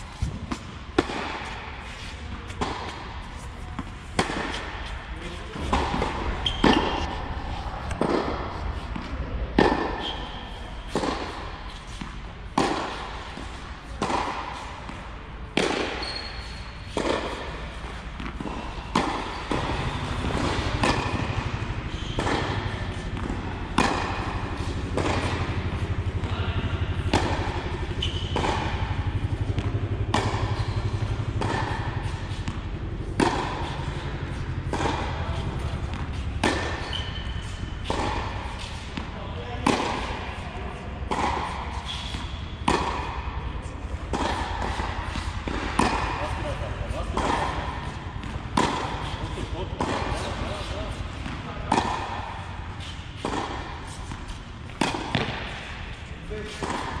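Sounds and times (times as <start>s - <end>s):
balls bouncing on hard court: 0.0s - 57.0s
steady low hum: 0.0s - 57.0s
tennis balls hit by rackets: 0.0s - 57.0s.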